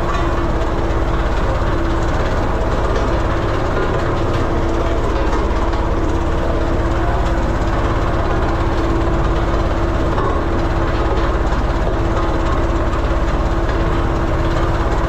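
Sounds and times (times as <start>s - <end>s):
road roller diesel engine rumble: 0.0s - 15.0s.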